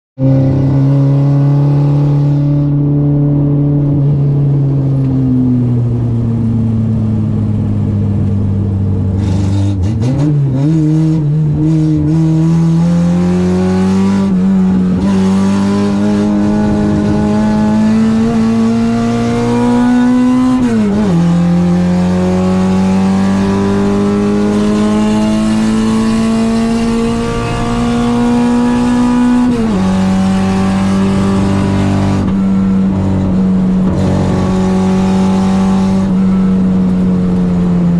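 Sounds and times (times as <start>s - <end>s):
car engine revving: 0.2s - 37.9s.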